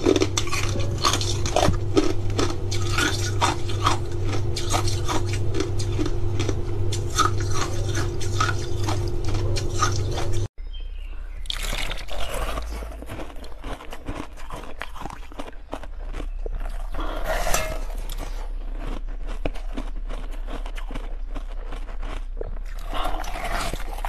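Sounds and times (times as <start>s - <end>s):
ice crunching being chewed: 0.0s - 10.5s, 11.4s - 24.0s
steady low hum: 0.0s - 24.0s.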